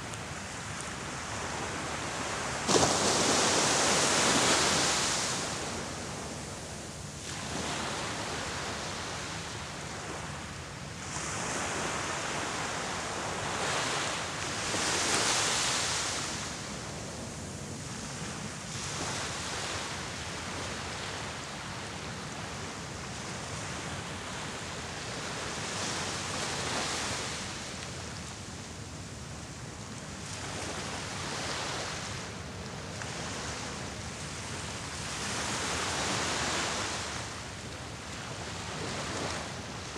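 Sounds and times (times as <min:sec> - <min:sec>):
small waves washing ashore: 0:00.0 - 0:39.9.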